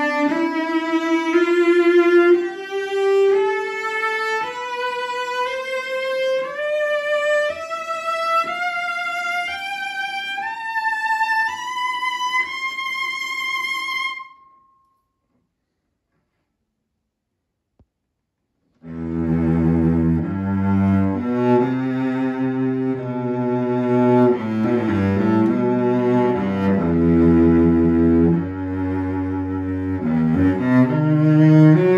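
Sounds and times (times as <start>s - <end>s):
cello bowed in rising scale: 0.0s - 14.3s, 18.8s - 31.9s.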